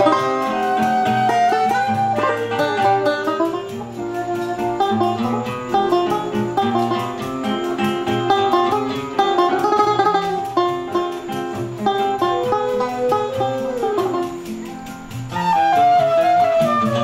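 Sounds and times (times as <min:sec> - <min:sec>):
flute melody: 0:00.0 - 0:17.0
plucked guitar and mandolin: 0:00.0 - 0:17.0.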